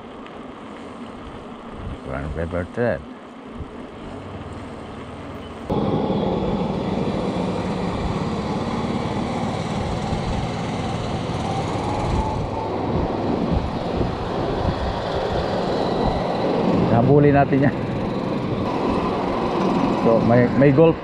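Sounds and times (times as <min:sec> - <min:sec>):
wind buffeting microphone: 0:01.2 - 0:02.6, 0:03.5 - 0:21.0.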